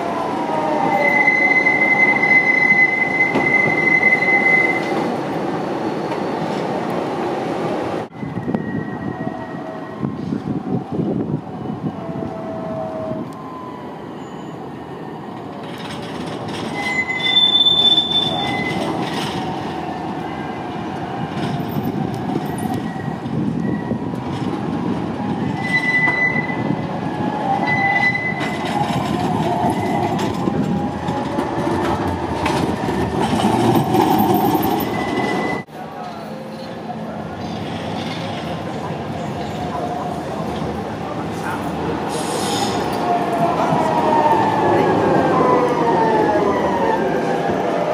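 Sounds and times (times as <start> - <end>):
tram wheels squealing on rails: 0.0 - 6.7, 8.1 - 47.9
tram rumble: 0.0 - 47.9.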